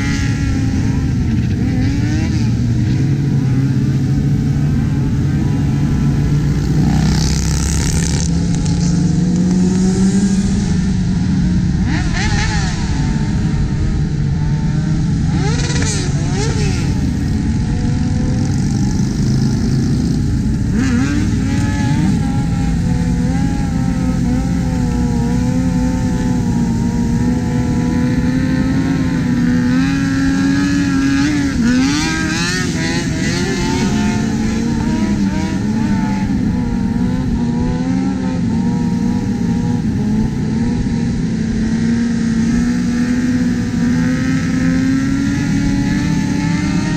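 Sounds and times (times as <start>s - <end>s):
motorcycle engines at speed: 0.0s - 46.9s
wind and road noise: 0.0s - 46.9s.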